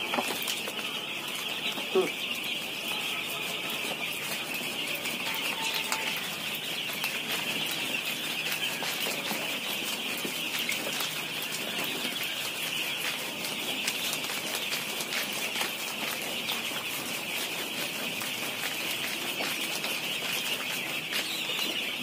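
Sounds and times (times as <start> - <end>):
husks rustling in mesh sieve: 0.0 - 22.0.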